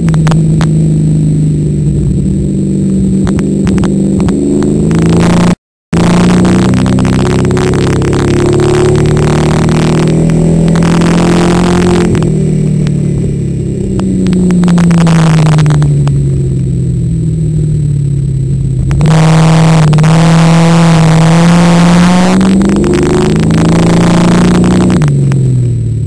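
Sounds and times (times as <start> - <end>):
race car engine under load: 0.0 - 26.0.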